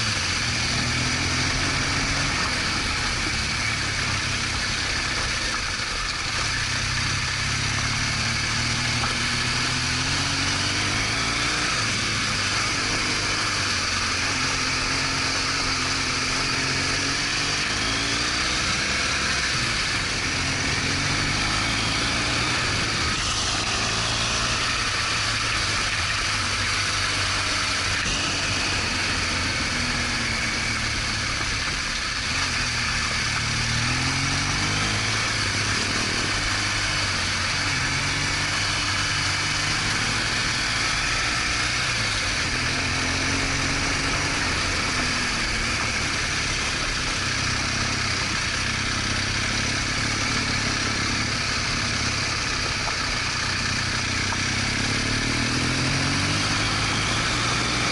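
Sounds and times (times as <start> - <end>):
motorcycle engine running: 0.0 - 57.9
steady rushing noise: 0.0 - 57.9.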